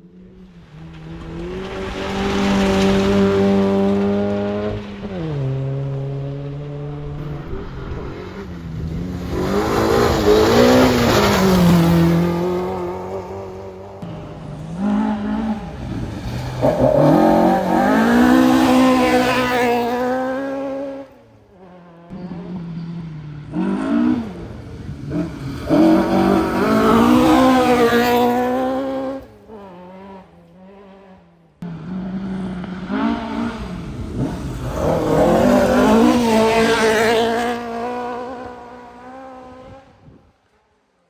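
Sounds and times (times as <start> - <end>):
rally car engine revving: 0.0 - 40.2.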